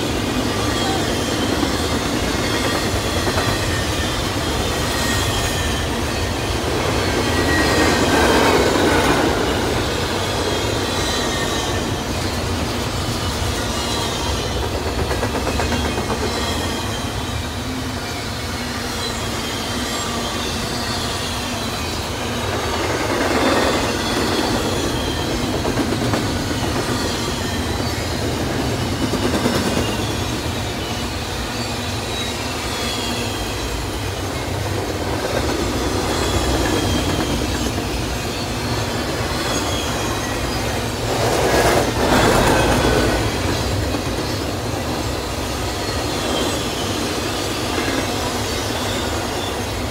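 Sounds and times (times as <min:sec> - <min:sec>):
freight train wheels clattering: 0:00.0 - 0:49.9.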